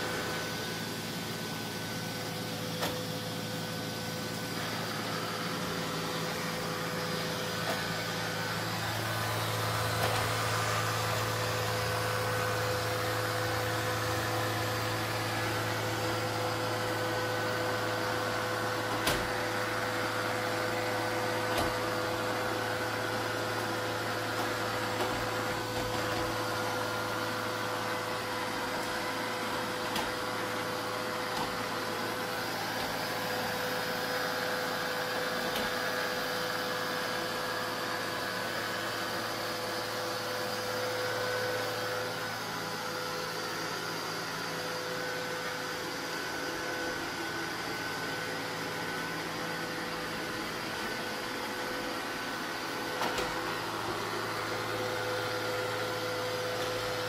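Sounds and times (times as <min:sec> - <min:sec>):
robot vacuum motor and brush hum: 0:00.0 - 0:57.0.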